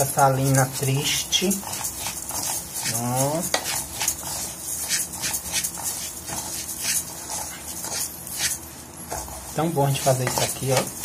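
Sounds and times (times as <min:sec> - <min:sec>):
spoon scraping rice in a pan: 0:00.0 - 0:11.0.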